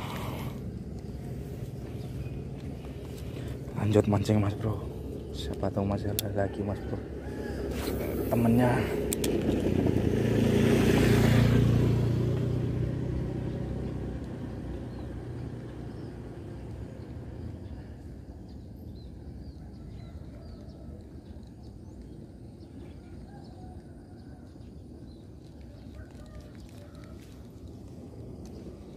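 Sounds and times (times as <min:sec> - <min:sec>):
vehicle engine hum passing: 0:00.0 - 0:28.9.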